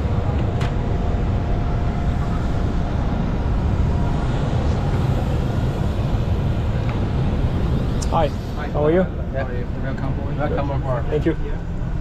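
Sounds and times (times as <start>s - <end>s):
faint hum: 0.0s - 12.0s
low machinery rumble: 0.0s - 12.0s.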